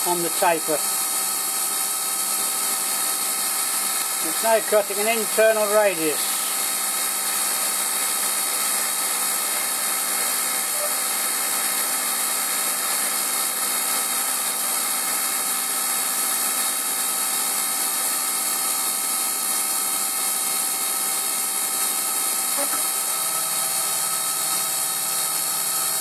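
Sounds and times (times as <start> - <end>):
lathe machine drone: 0.0 - 26.0.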